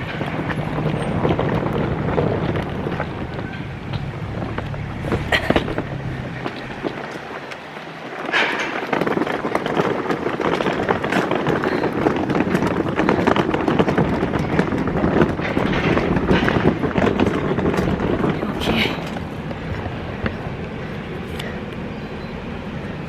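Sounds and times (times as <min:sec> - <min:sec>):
suitcase wheels rattling over paving: 0:00.0 - 0:23.0.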